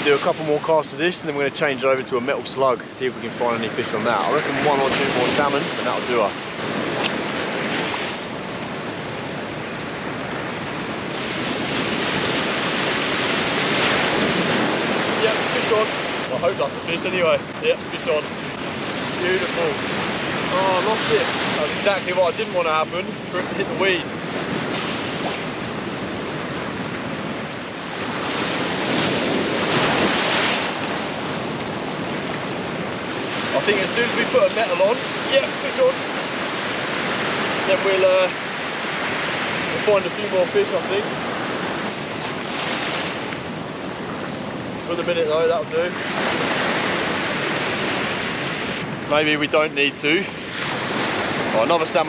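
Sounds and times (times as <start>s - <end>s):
ocean surf washing in: 0.0s - 52.0s.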